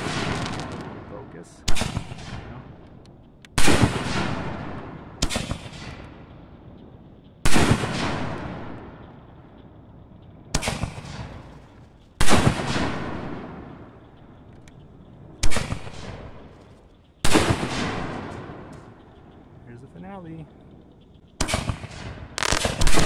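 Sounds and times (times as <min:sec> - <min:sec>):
fireworks booming with echo: 0:00.0 - 0:23.0.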